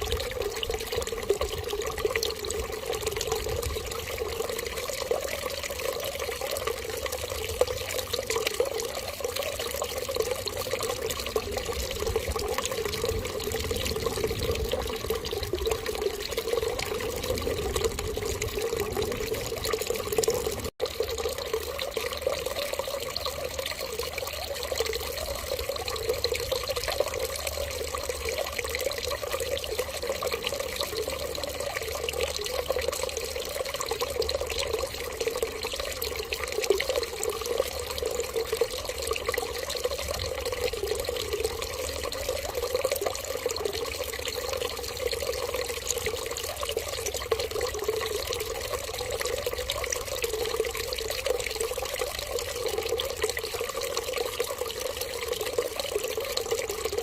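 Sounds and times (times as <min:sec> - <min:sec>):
running tap water: 0:00.0 - 0:57.0.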